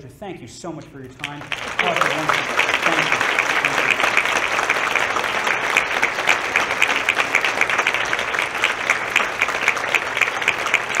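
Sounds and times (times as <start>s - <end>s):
large audience applauding: 1.2s - 11.0s.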